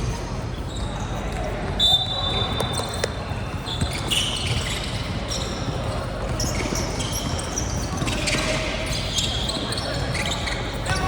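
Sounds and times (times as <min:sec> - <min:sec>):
crowd noise: 0:00.0 - 0:11.0
sneakers squeaking: 0:00.0 - 0:11.0.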